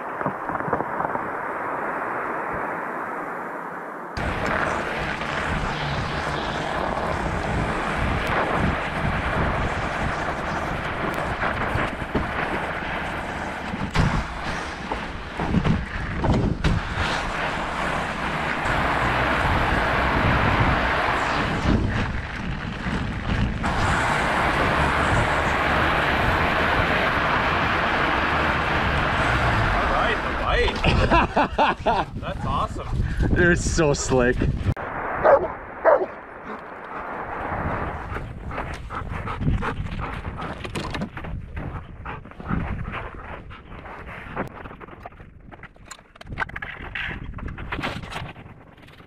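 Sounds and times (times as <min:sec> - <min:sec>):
bike tyre rumbling on ice: 0:00.0 - 0:03.2, 0:04.2 - 0:49.0
wind buffeting camera: 0:00.0 - 0:49.0.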